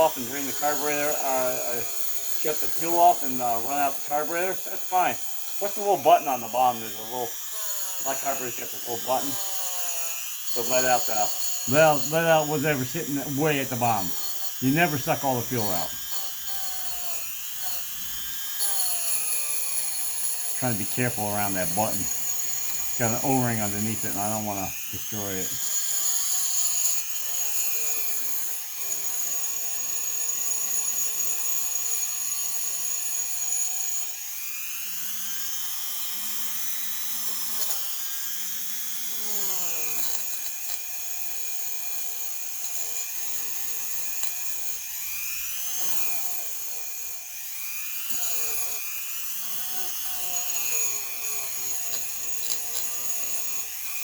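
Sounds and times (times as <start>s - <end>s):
rotary tool wire brush whining: 0.0s - 54.0s.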